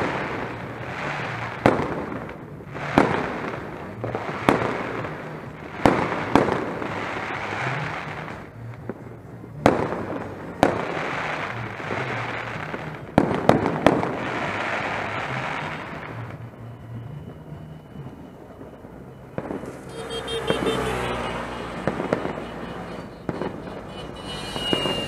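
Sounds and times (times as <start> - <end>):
continuous rushing din: 0.0 - 25.0
fireworks bangs: 0.0 - 25.0.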